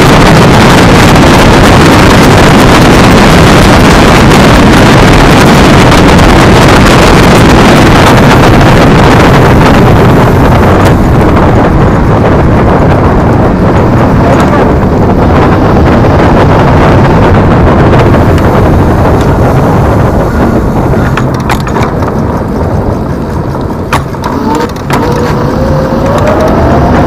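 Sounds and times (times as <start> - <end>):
road and tyre rumble: 0.0 - 27.0
wind buffeting microphone: 0.0 - 27.0.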